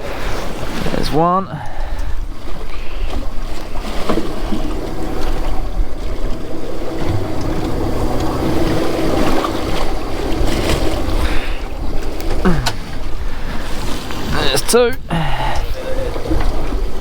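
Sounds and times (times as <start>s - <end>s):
boat motor humming: 0.0s - 17.0s
wind buffeting microphone: 0.0s - 17.0s.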